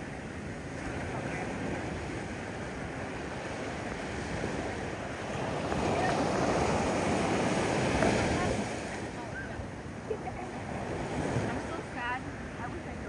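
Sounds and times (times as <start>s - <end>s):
ocean surf washing around rocks: 0.0s - 13.0s.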